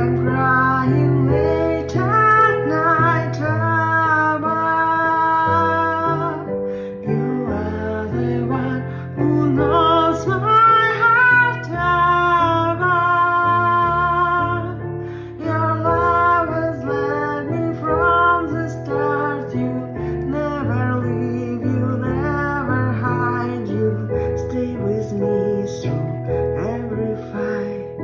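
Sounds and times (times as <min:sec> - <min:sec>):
woman singing slow melody: 0:00.0 - 0:14.8, 0:15.4 - 0:28.0.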